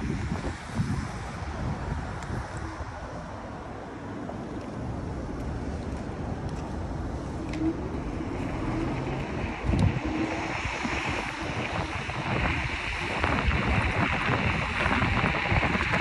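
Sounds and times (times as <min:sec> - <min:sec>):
vehicles rumbling: 0:00.0 - 0:16.0
wind: 0:00.0 - 0:16.0.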